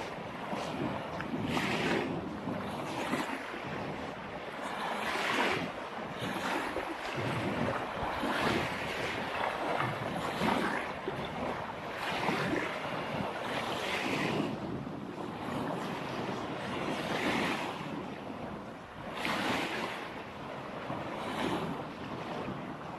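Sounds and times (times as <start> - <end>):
small waves washing onto beach: 0.0 - 22.9
wind on microphone: 0.0 - 22.9.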